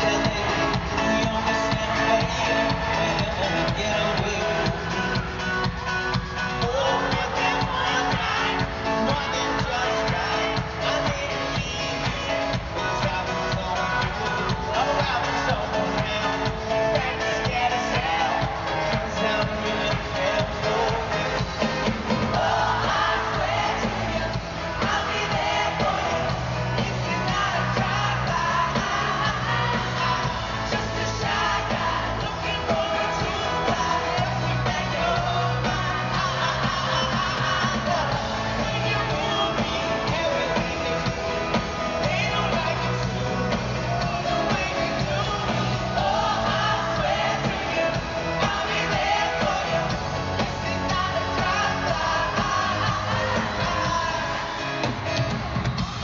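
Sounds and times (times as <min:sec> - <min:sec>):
man and woman singing: 0:00.0 - 0:55.1
crowd yelling and whooping: 0:00.0 - 0:56.0
live pop-rock band: 0:00.0 - 0:56.0.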